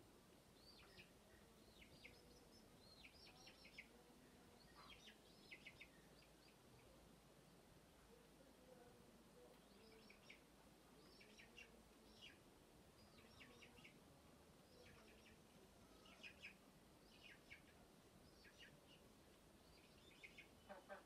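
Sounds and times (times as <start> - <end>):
faint bird chirps: 0.5 - 7.6, 9.4 - 14.0, 14.6 - 21.0.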